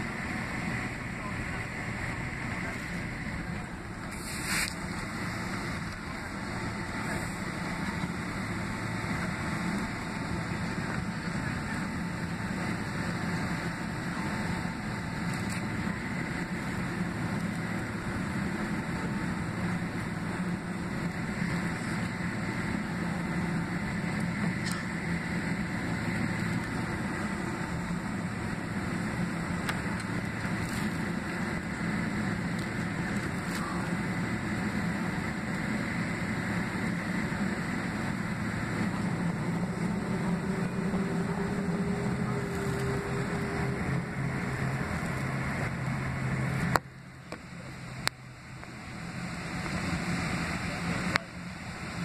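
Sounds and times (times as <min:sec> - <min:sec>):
jet engines humming in cabin: 0:00.0 - 0:52.0.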